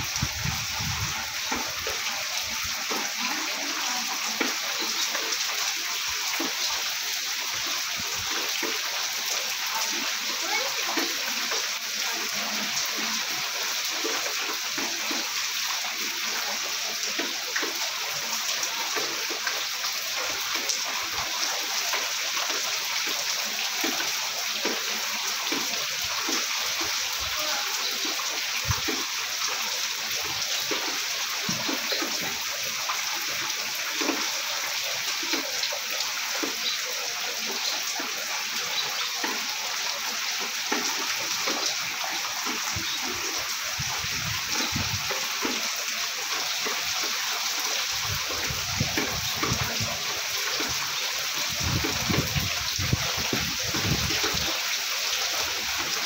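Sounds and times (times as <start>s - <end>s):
heavy rain pouring: 0.0s - 56.0s
raindrops splashing close by: 0.0s - 56.0s.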